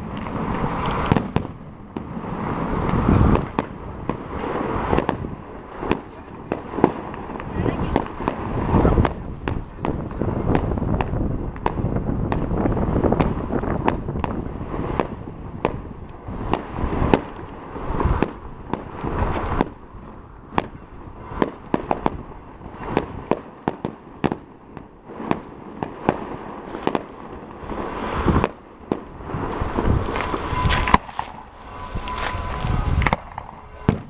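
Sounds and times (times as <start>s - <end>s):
fireworks cracks and bangs: 0.0s - 34.0s
low rumble of bursts: 0.0s - 34.0s.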